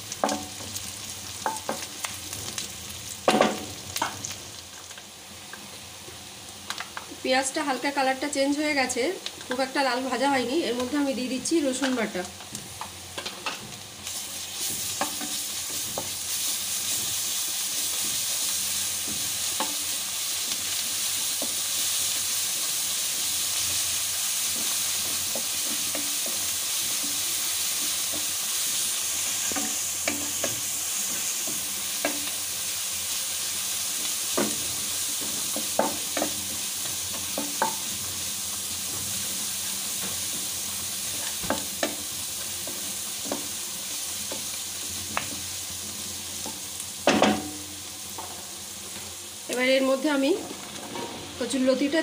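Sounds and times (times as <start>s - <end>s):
onions sizzling in oil: 0.0s - 52.0s.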